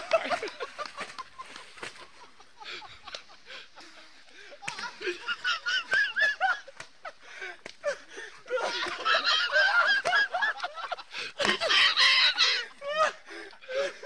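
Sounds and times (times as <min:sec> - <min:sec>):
people laughing in cackles: 0:00.0 - 0:14.0.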